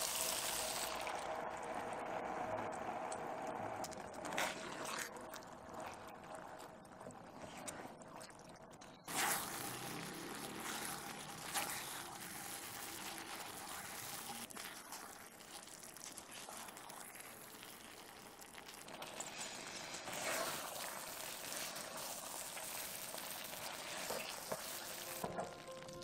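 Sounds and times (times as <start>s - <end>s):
sauce simmering in a pan: 0.0s - 26.0s
spatula stirring: 4.2s - 25.8s.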